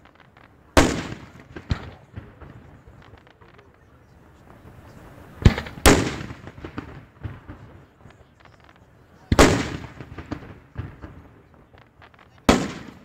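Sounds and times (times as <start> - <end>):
fireworks bangs with rolling echo: 0.0 - 13.0
small firework cracks: 0.0 - 13.0.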